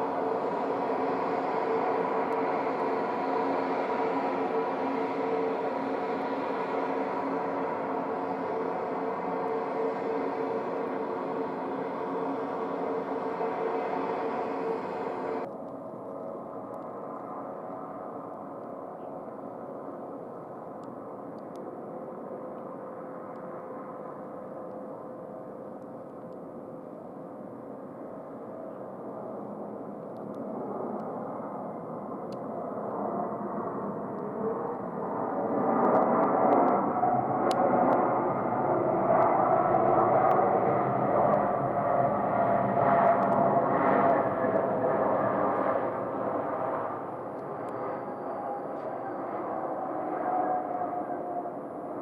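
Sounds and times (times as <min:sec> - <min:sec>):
jet engine noise: 0:00.0 - 0:52.0.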